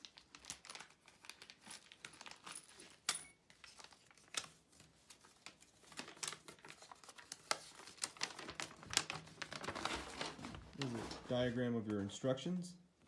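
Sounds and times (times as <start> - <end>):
plastic and paper crinkling: 0.0 - 12.4.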